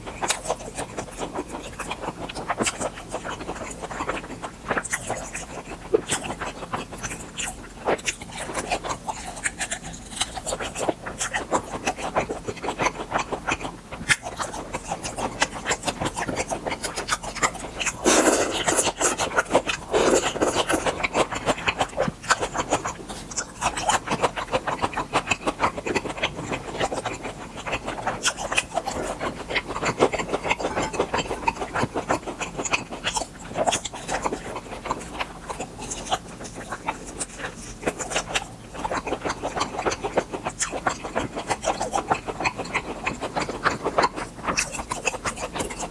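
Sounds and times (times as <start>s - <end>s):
chewing with mouth clicks: 0.0s - 45.9s.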